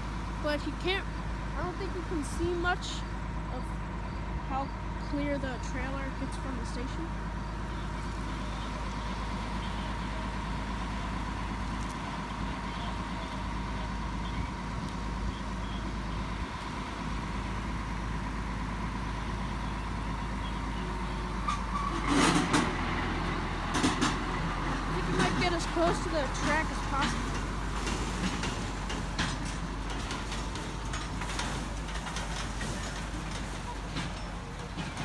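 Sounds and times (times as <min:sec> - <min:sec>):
truck engine with high whine: 0:00.0 - 0:35.0.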